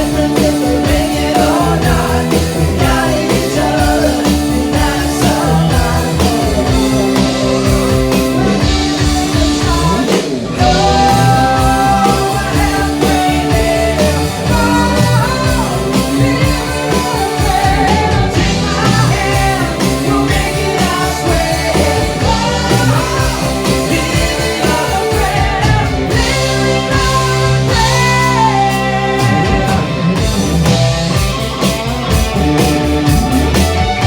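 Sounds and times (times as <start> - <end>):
rock band with singing: 0.0 - 34.0.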